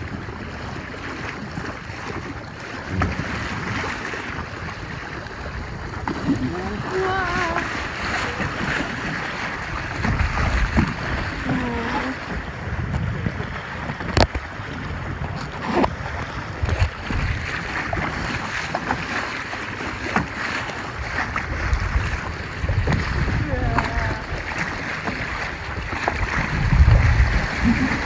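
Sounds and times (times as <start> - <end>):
strong wind buffeting microphone: 0.0 - 18.5, 20.9 - 28.0
waves splashing: 0.0 - 28.0.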